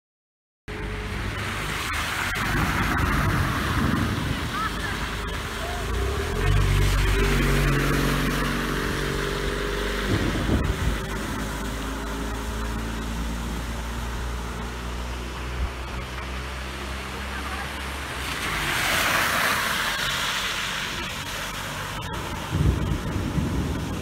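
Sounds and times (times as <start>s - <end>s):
car engine humming: 0.7s - 24.0s
tyres spraying through water: 0.7s - 24.0s.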